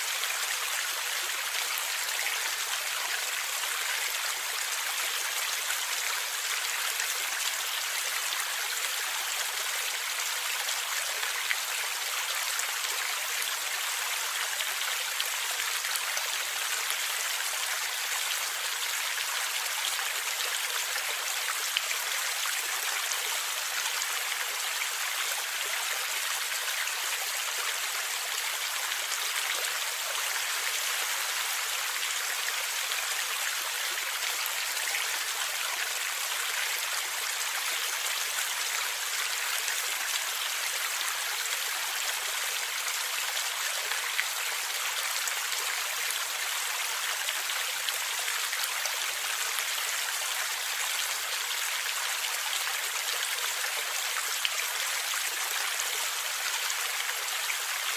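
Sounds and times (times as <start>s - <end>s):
stream water flowing and gurgling: 0.0s - 57.9s.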